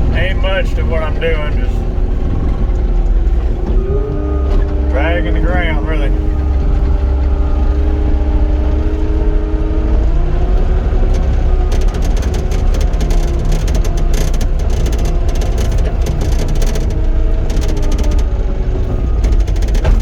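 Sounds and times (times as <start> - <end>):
diesel engine running: 0.0 - 20.0
tracks clicking and rattling: 0.0 - 20.0.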